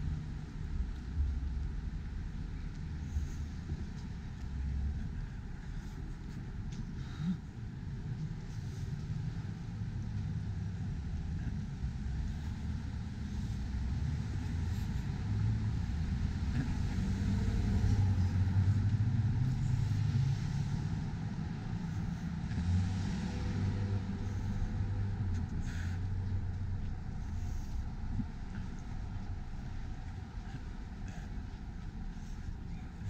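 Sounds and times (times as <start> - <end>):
car engines passing: 0.0 - 33.0.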